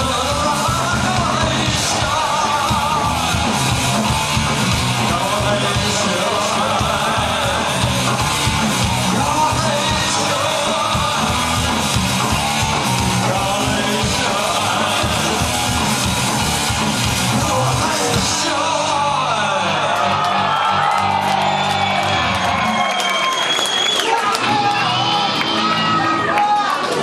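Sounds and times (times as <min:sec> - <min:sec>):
punk rock band playing live: 0:00.0 - 0:23.5
distorted guitars: 0:00.0 - 0:27.0
drums: 0:00.0 - 0:27.0.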